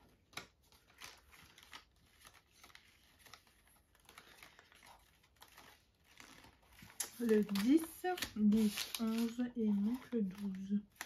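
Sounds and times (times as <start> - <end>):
rustling of wrapped packages: 0.0 - 11.0.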